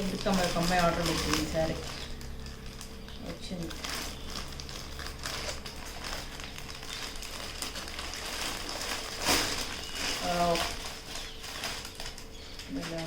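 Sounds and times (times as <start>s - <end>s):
parcel packaging rustling: 0.0s - 13.0s.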